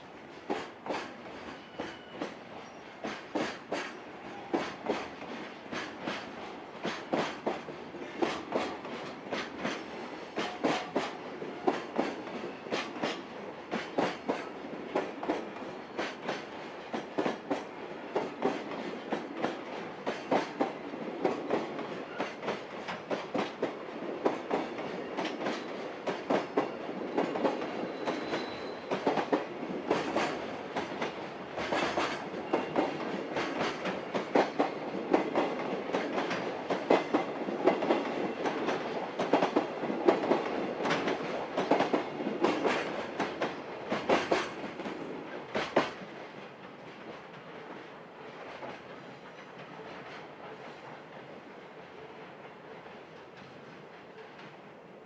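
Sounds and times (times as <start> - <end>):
freight train wheels clicking: 0.4 - 47.8.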